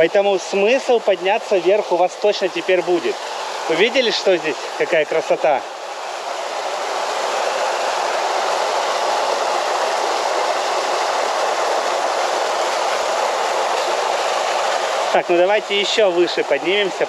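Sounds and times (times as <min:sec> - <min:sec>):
waterfall rushing and splashing: 0:00.0 - 0:17.0.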